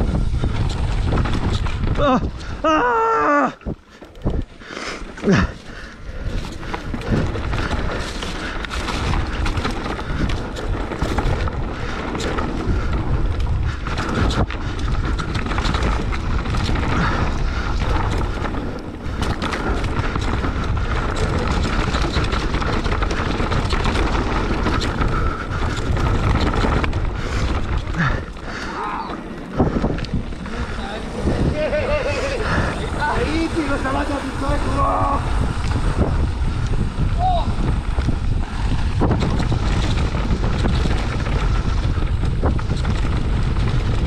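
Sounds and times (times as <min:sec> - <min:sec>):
bike rattling over bumpy trail: 0:00.0 - 0:44.0
wind buffeting microphone: 0:00.0 - 0:44.0.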